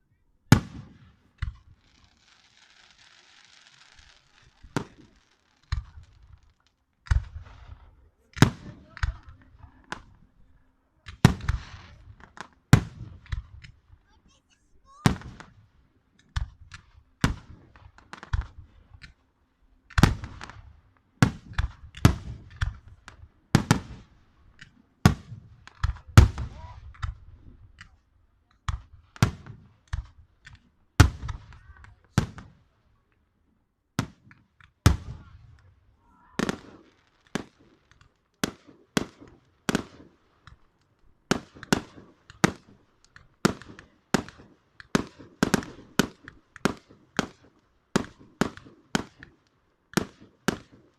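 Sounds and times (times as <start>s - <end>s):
fireworks bangs and pops: 0.5s - 10.4s, 11.0s - 33.2s, 33.9s - 50.9s.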